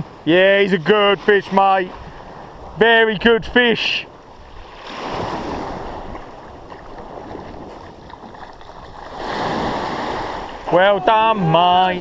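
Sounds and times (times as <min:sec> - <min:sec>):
surf washing on beach: 0:00.0 - 0:12.0.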